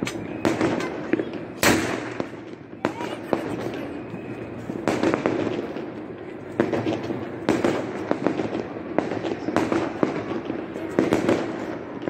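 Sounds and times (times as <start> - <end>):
firecrackers banging and crackling: 0.0 - 12.0.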